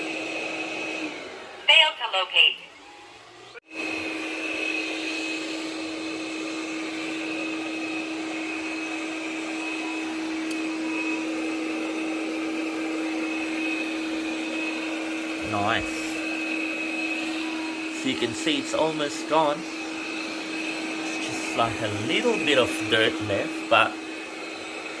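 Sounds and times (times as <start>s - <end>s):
robot vacuum cleaner running: 0.0s - 25.0s.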